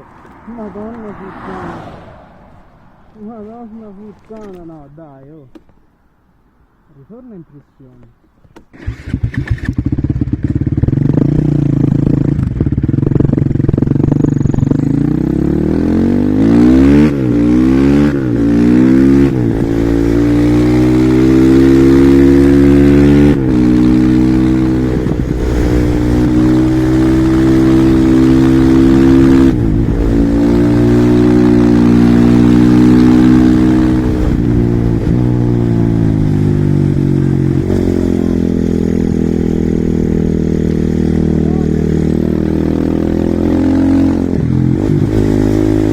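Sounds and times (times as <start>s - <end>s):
motorcycle engine revving: 8.7s - 45.9s.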